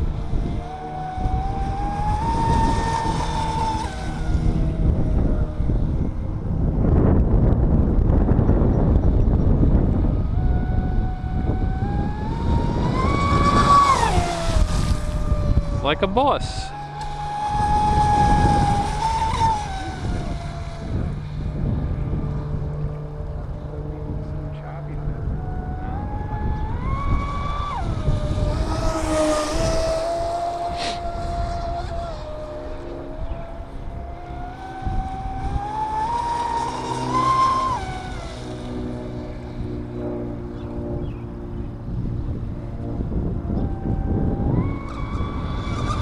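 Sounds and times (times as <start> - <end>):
rc boat motor whine: 0.0 - 46.0
wind on microphone: 0.0 - 46.0.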